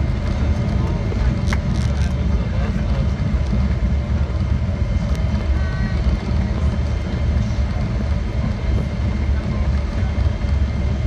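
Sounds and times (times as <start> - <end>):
aircraft cabin low rumble: 0.0 - 11.0.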